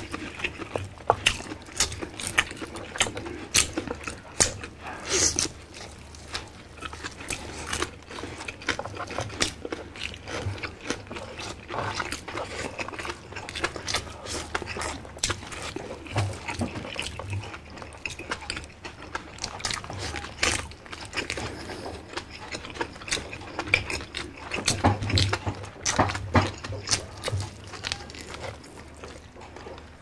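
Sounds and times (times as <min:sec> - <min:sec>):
people chewing: 0:00.0 - 0:30.0.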